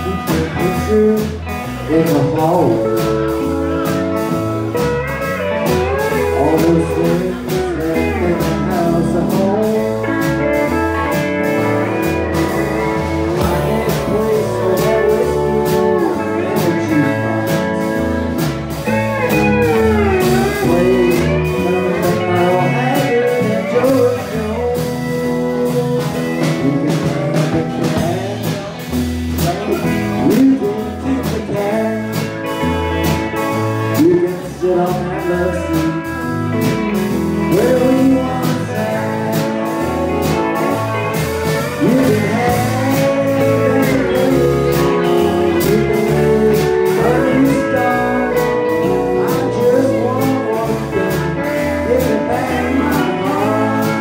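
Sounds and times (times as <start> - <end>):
drums: 0.0 - 54.0
electric bass: 0.0 - 54.0
electric guitar: 0.0 - 54.0
steel guitar: 0.0 - 54.0.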